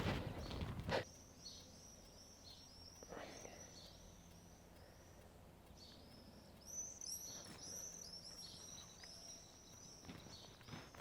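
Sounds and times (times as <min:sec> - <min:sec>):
faint outdoor background noise: 0:00.0 - 0:11.0
songbird chirping: 0:00.0 - 0:11.0.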